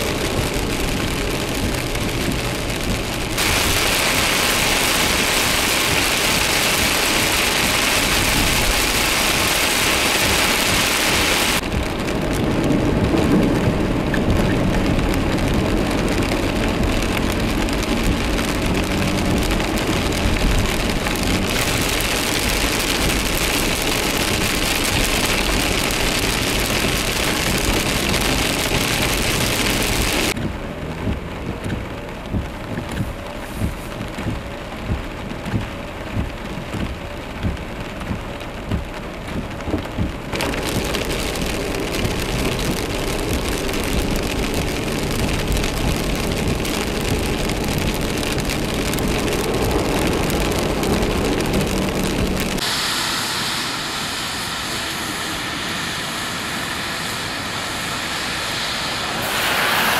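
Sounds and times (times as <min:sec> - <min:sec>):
heavy rain hissing: 0:00.0 - 0:31.0, 0:39.6 - 0:59.9
car driving on wet road: 0:00.0 - 0:59.9
tyres spraying through water: 0:00.0 - 0:59.9.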